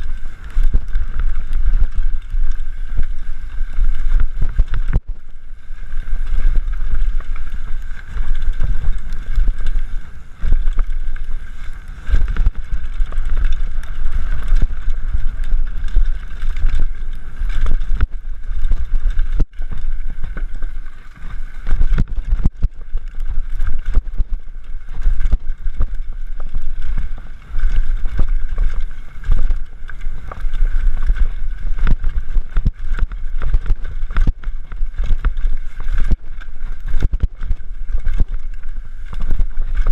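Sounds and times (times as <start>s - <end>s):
bike clattering over rough ground: 5.9s - 39.9s.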